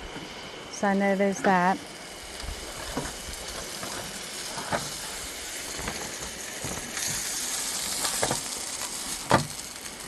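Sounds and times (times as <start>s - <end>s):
food frying hiss: 0.0s - 10.0s.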